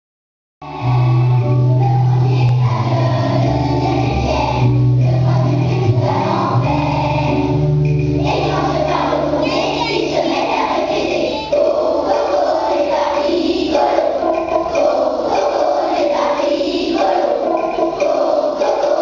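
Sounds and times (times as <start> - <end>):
children's choir singing: 0.6 - 19.0
instrumental accompaniment: 0.6 - 19.0.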